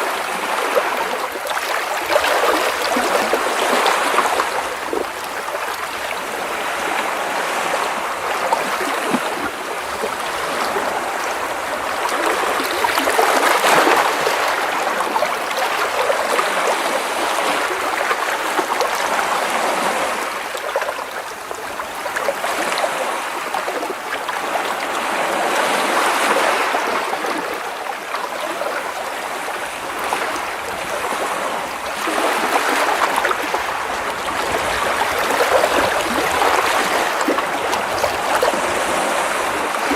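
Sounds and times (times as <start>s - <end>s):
waves splashing against rocks: 0.0s - 39.9s.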